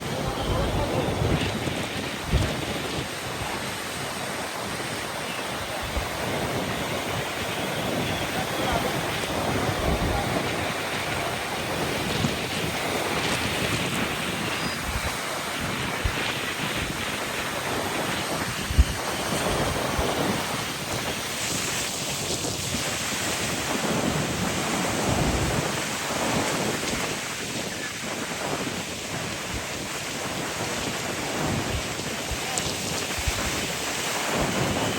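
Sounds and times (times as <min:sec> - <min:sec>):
waves breaking: 0:00.0 - 0:34.9
wind buffeting microphone: 0:00.0 - 0:34.9.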